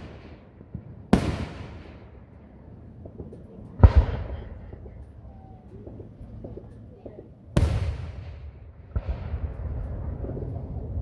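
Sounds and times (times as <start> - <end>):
fireworks bursting with rumble: 0.0 - 11.0.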